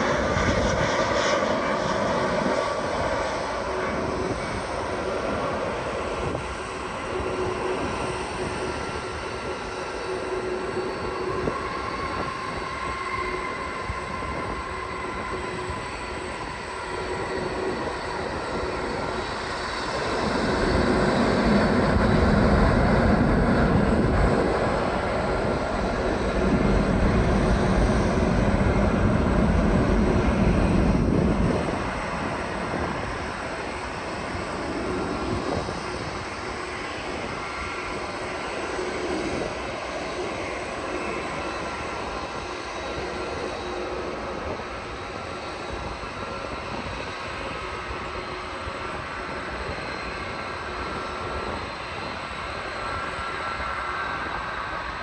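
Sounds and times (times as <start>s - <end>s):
jet engines rumbling: 0.0s - 55.0s
thin high engine whine: 0.0s - 55.0s.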